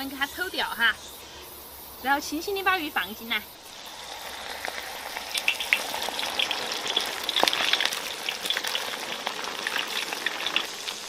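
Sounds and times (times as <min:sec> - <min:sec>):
fish frying in hot oil: 0:02.0 - 0:11.0.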